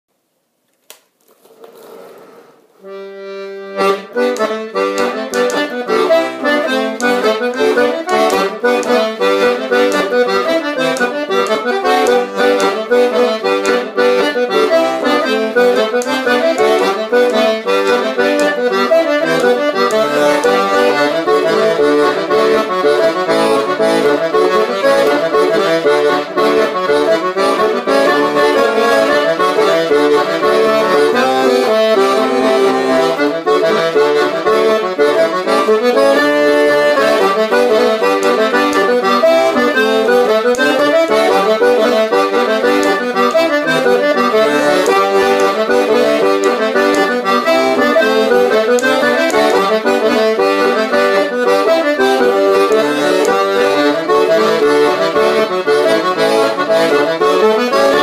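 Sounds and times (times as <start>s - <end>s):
melodeon playing folk dance tune: 3.0s - 58.0s.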